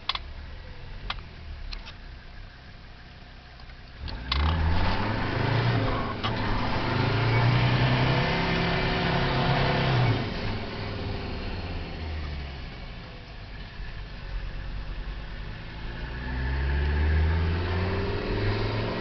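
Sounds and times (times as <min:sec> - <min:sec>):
diesel engine accelerating: 0:02.3 - 0:19.0.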